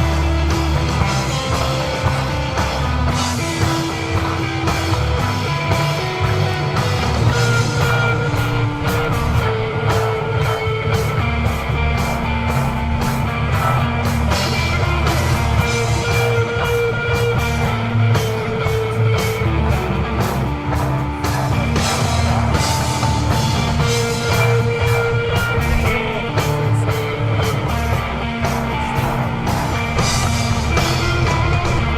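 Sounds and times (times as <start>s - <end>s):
bass line: 0.0s - 31.9s
drum kit: 0.0s - 31.9s
sustained electric guitar notes: 0.0s - 31.9s.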